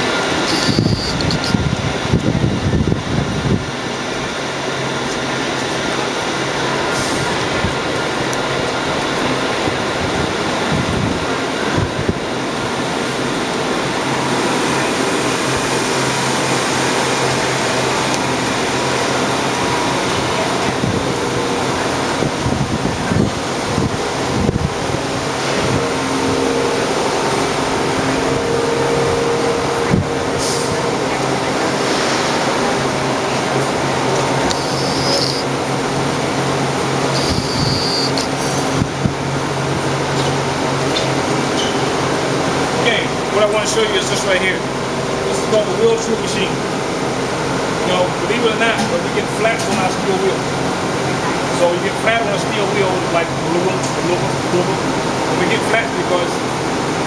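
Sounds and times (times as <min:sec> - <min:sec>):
subway car humming drone: 0:00.0 - 0:57.0.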